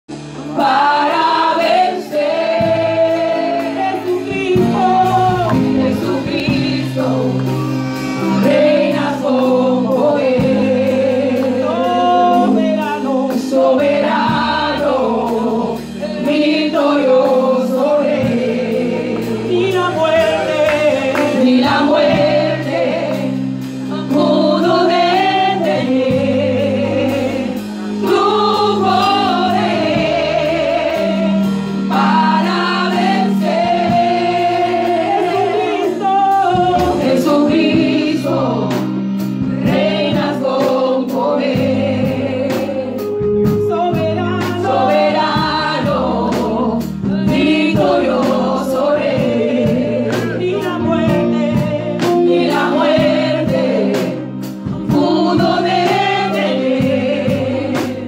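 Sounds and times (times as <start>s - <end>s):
choir singing: 0.2s - 58.0s
woman singing lead: 0.4s - 58.0s.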